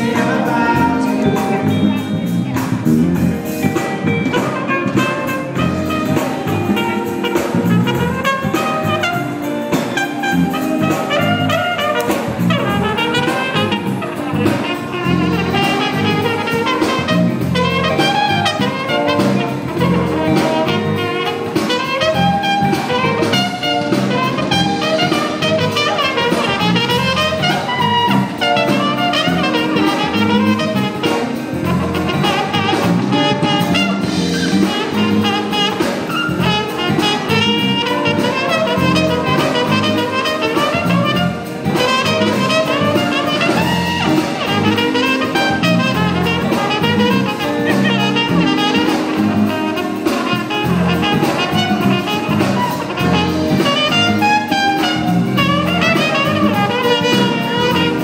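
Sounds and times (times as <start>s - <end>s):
brass horn melody: 0.0s - 58.0s
jazz band playing: 0.0s - 58.0s.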